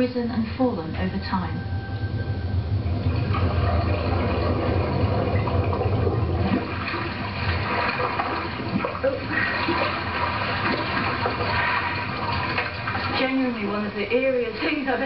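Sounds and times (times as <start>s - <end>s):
rushing water on television: 2.5s - 15.0s.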